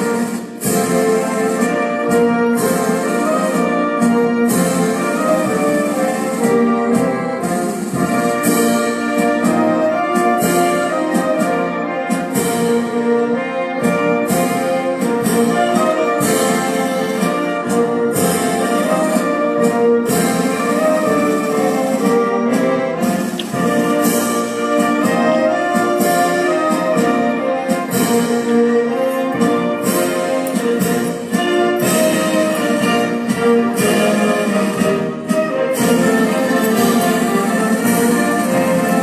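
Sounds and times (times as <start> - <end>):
drum and cymbal strokes: 0.0 - 39.0
orchestra with brass playing anthem: 0.0 - 39.0.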